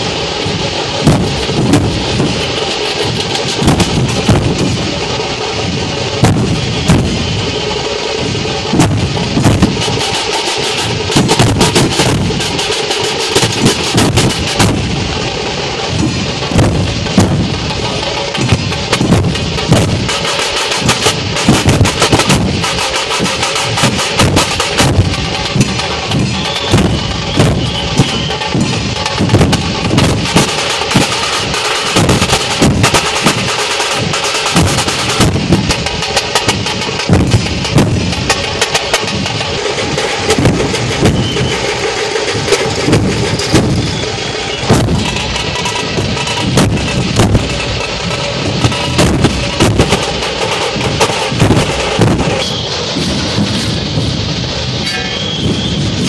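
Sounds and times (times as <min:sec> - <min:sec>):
barrel drums beaten fast: 0:00.0 - 0:56.0.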